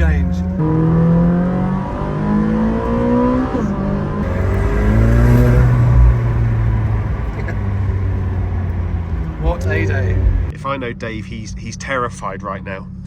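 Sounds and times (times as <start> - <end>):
sports car engine accelerating: 0.0 - 12.2.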